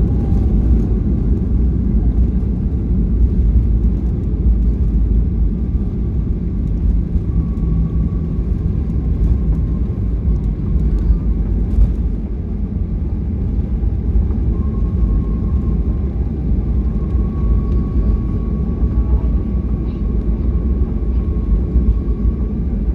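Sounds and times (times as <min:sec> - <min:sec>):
aircraft cabin low rumble: 0:00.0 - 0:22.9.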